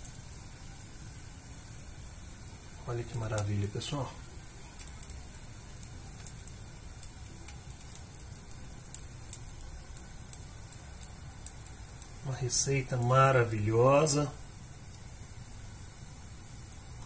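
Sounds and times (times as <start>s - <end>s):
dumplings sizzling in a pan: 0.0s - 17.0s.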